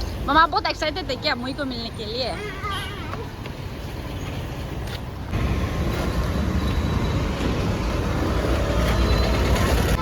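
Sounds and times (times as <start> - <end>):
vehicle road noise: 0.0 - 10.0.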